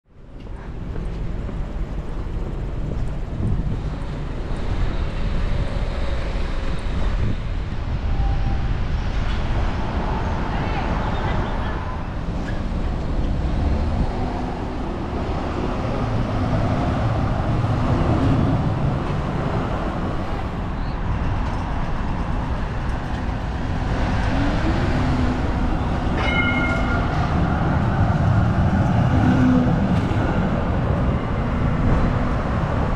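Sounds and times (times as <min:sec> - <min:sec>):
road traffic: 0:00.1 - 0:32.9
tram rolling on track: 0:00.1 - 0:32.9.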